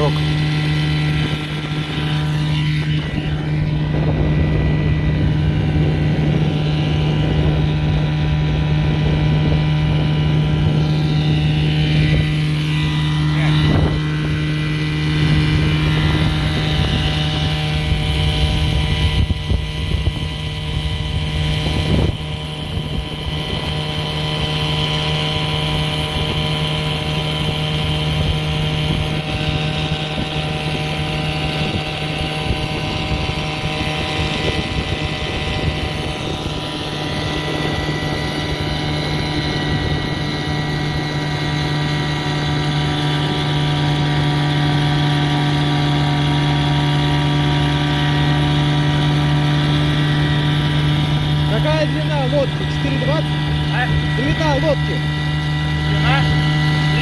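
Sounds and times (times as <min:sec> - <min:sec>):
outboard motor droning: 0:00.0 - 0:57.0.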